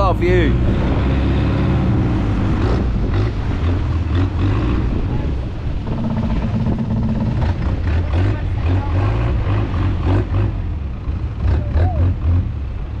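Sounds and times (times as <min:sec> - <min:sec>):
boat engine running: 0:00.0 - 0:13.0
water rushing along hull: 0:00.0 - 0:13.0
waves splashing: 0:00.0 - 0:13.0.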